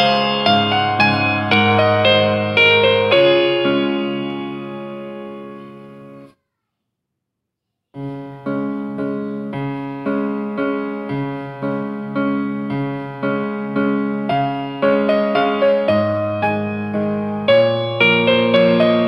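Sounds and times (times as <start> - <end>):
piano music: 0.0 - 6.3, 8.0 - 19.0.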